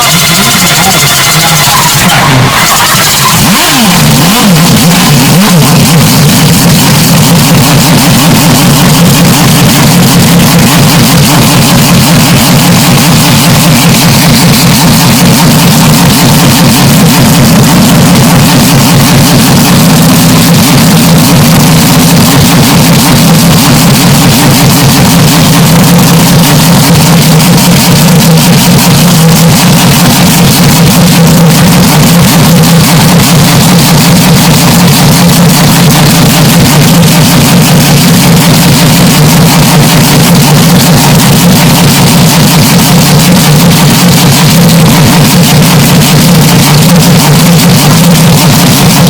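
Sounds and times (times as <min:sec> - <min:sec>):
distorted engine drone: 0:00.0 - 0:49.0.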